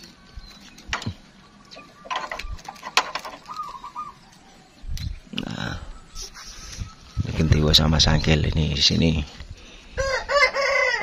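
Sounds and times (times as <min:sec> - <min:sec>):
doves calling: 0:00.0 - 0:11.0.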